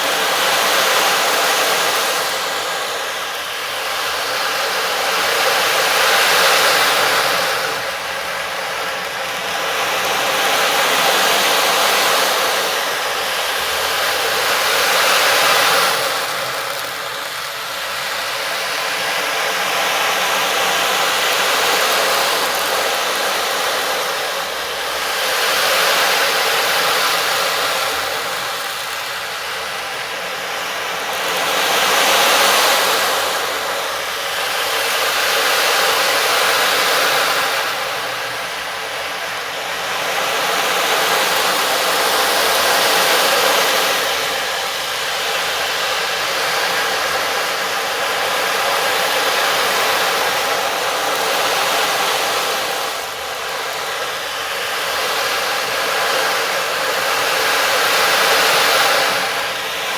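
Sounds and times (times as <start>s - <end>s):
rushing hissing noise: 0.0s - 59.9s.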